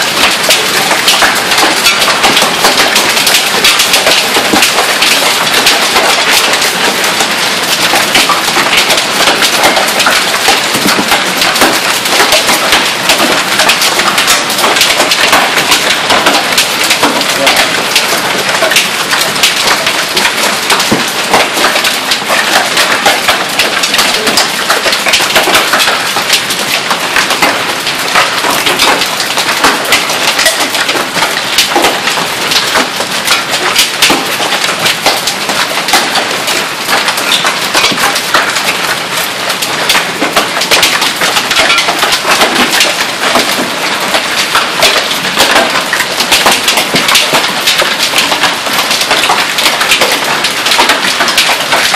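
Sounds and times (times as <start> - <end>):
hailstones striking surfaces: 0.0 - 51.9
heavy rain downpour: 0.0 - 51.9.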